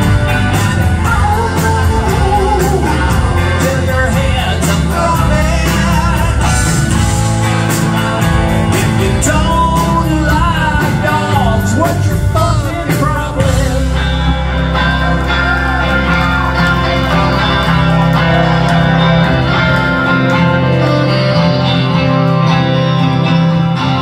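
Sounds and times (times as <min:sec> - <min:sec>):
drum kit beat: 0:00.0 - 0:20.8
bending lead melody: 0:00.0 - 0:24.0
electric bass: 0:00.0 - 0:24.0
electric guitars: 0:00.0 - 0:24.0.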